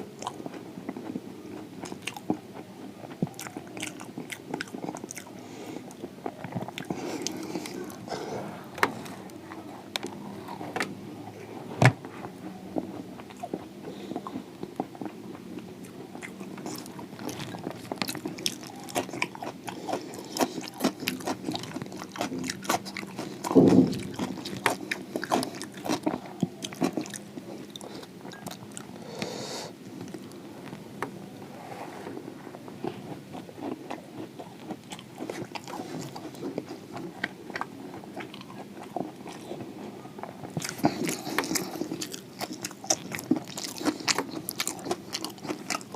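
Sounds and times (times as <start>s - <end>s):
crunching and chewing food: 0.0s - 45.9s.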